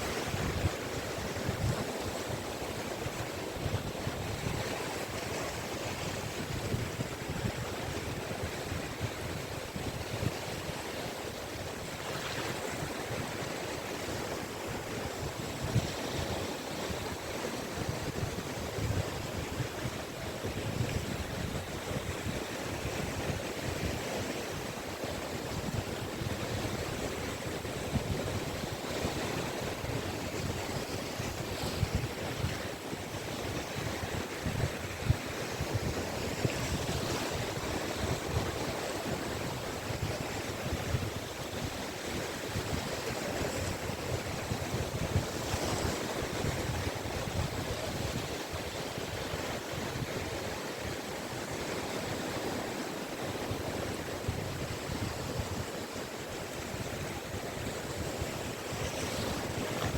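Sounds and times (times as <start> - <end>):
waves breaking on a beach: 0.0 - 59.9
wind on the microphone: 0.0 - 59.9.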